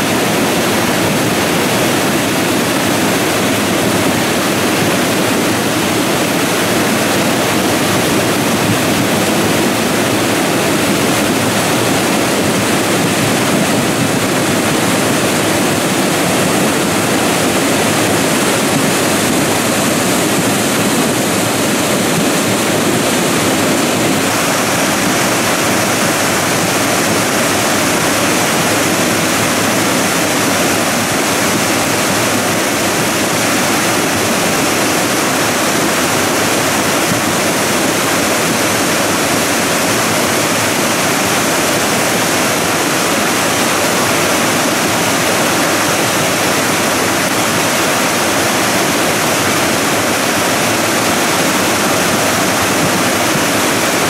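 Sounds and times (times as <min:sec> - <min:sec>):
muddy torrent rushing: 0:00.0 - 0:54.0.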